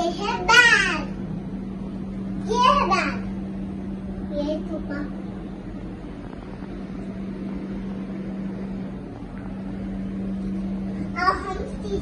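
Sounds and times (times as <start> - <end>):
steady mechanical hum: 0.0 - 12.0
low rumble: 1.1 - 12.0.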